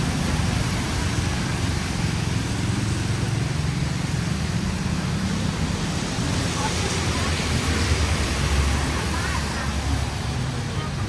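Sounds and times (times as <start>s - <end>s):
rain hiss: 0.0s - 11.0s
vehicle engines rumbling: 0.0s - 11.0s.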